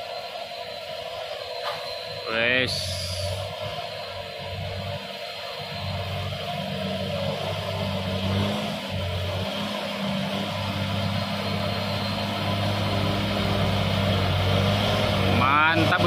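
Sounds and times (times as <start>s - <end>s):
truck diesel engine pulling uphill: 2.3s - 16.0s.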